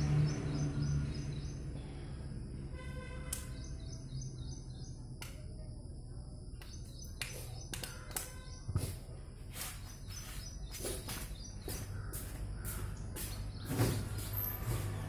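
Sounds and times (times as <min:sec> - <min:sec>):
birds chirping: 0:00.0 - 0:02.2, 0:02.9 - 0:05.4, 0:06.1 - 0:15.0.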